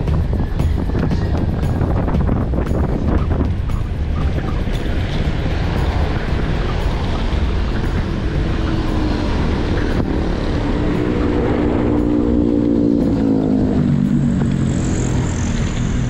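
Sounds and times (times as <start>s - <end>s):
vehicle engine passing: 0.0s - 16.0s
wind and road noise: 0.0s - 16.0s.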